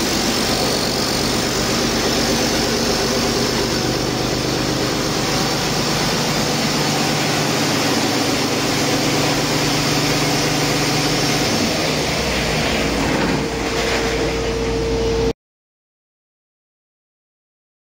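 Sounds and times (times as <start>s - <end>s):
diesel engine running: 0.0s - 15.3s
steady whine: 0.0s - 15.3s.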